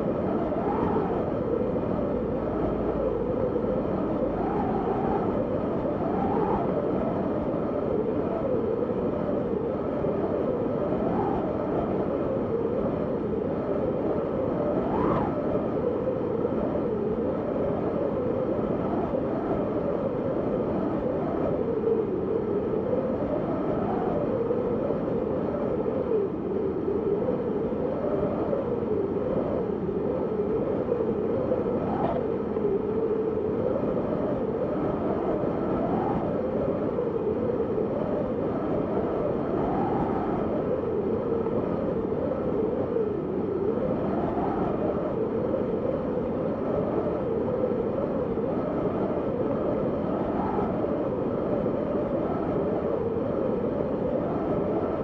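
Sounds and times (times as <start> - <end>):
wind blowing with moaning tone: 0.0 - 55.0.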